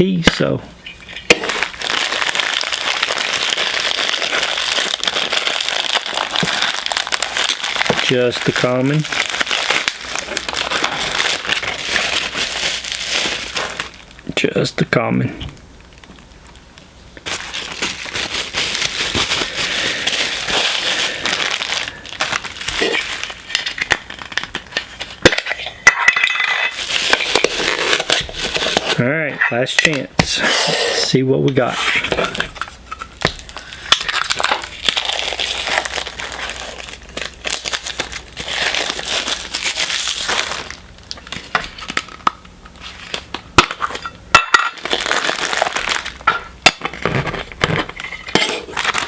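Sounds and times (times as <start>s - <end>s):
plastic packaging crinkling: 0.0s - 14.7s, 15.8s - 29.1s, 32.0s - 49.0s.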